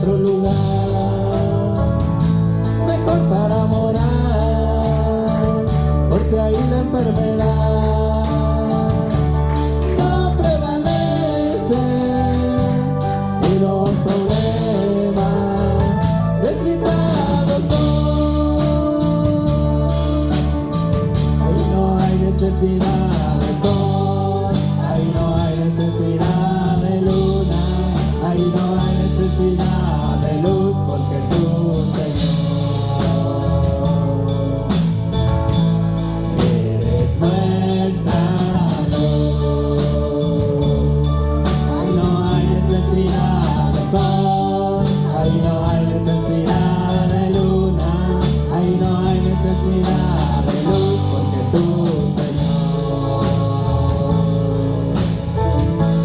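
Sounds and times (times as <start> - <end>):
band with bass and drums: 0.0 - 56.0
singers: 0.0 - 56.0.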